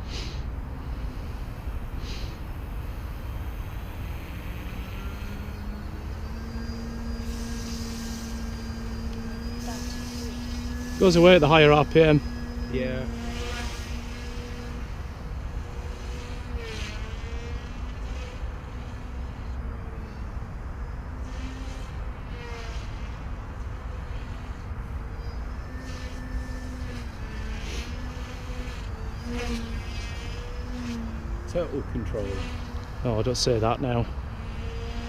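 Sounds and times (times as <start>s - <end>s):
rc helicopter rotor whine: 0.0s - 35.0s.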